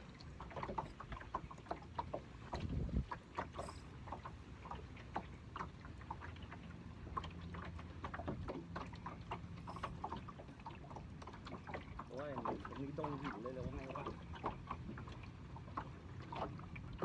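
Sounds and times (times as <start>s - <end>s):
water lapping and splashing: 0.0s - 17.0s.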